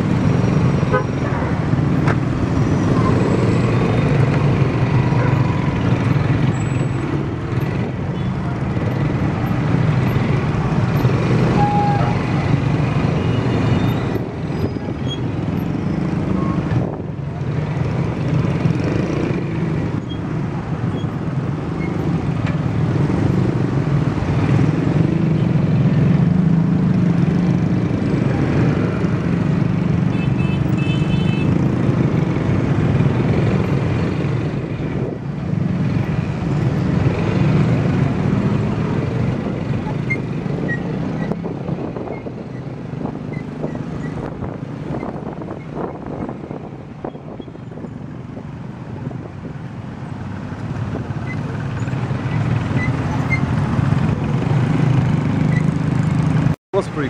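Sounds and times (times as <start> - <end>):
city traffic: 0.0 - 57.0.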